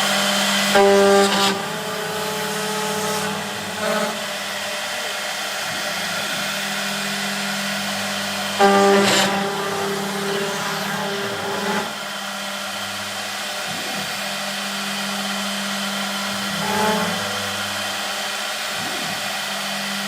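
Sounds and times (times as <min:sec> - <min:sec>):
router whine cutting wood: 0:00.0 - 0:20.0.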